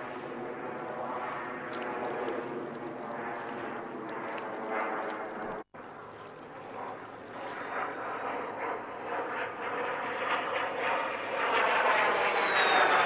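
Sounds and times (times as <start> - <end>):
high whine: 0.0 - 13.0
radial aircraft engines running: 0.0 - 13.0.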